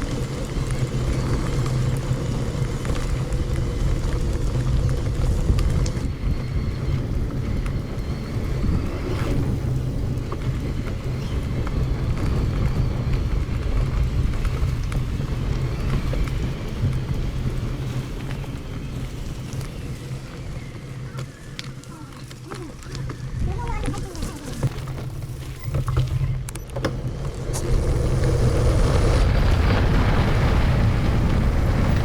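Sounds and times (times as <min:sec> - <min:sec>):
bike tyres rolling on gravel: 0:00.0 - 0:32.0
wind buffeting microphone: 0:00.0 - 0:32.0.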